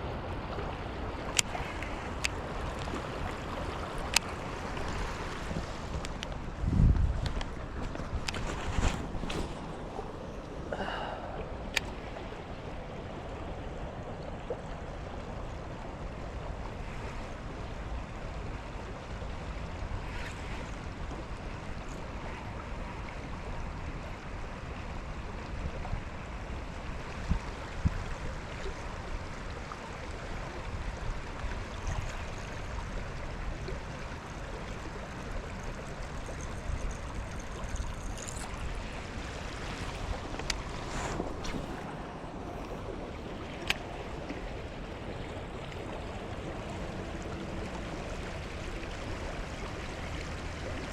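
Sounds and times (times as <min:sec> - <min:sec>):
water noise: 0:00.0 - 0:50.9
wind: 0:00.0 - 0:50.9.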